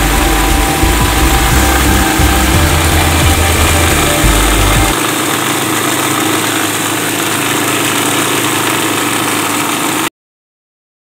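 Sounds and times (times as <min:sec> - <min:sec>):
food waste grinder running: 0:00.0 - 0:10.1.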